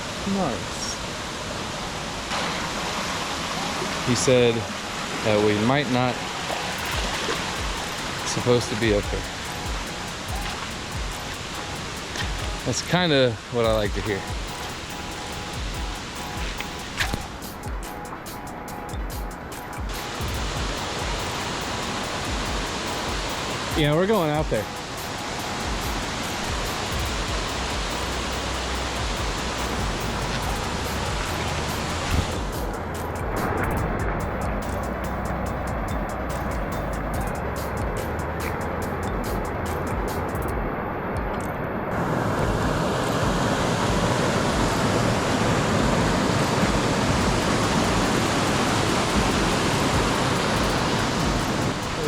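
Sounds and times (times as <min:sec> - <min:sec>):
waterfall roaring: 0:00.0 - 0:52.0.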